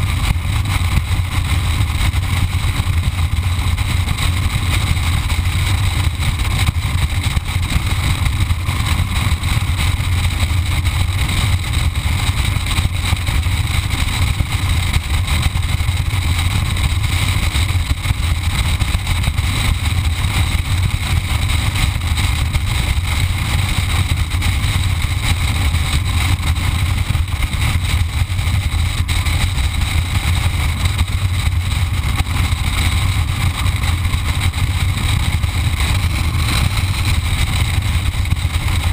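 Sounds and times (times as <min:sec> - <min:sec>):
motorcycle engine drone: 0:00.0 - 0:38.9
wind rushing over microphone: 0:00.0 - 0:38.9.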